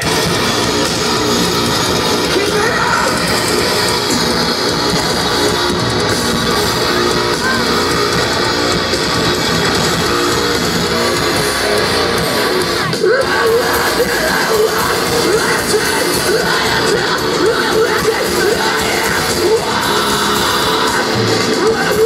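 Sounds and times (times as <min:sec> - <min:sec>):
live metal band playing: 0:00.0 - 0:22.0.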